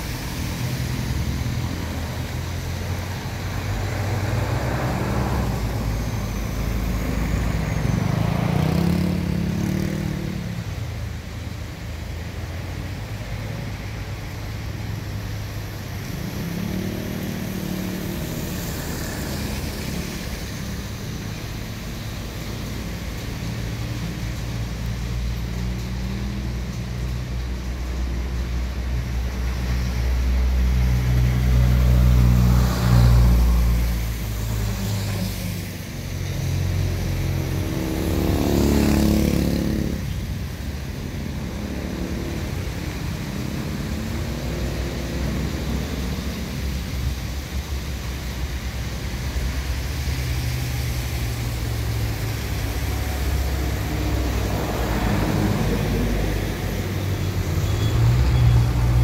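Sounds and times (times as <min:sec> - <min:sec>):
tyres hissing on wet road: 0:00.0 - 0:59.0
vehicle engines idling: 0:00.0 - 0:59.0.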